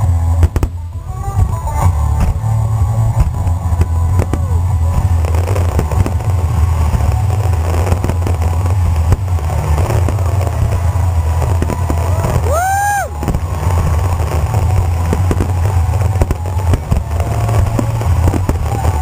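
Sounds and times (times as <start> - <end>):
continuous low rumble: 0.0 - 19.0.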